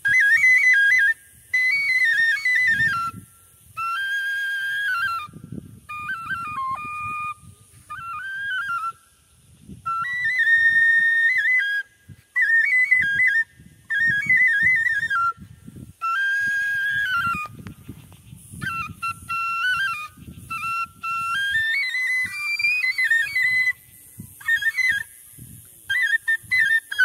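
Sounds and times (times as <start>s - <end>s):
flute playing slow melody: 0.0s - 17.7s, 18.6s - 25.2s.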